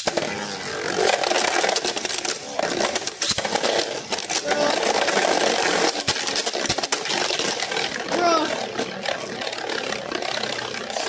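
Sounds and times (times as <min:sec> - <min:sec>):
spinning tops whirring and scraping: 0:00.0 - 0:11.0.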